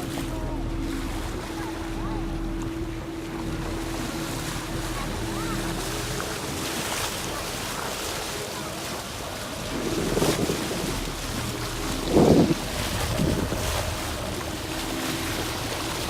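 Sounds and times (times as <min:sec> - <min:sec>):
boat motor running: 0:00.0 - 0:16.0
sea wash: 0:00.0 - 0:16.0
wind: 0:00.0 - 0:16.0.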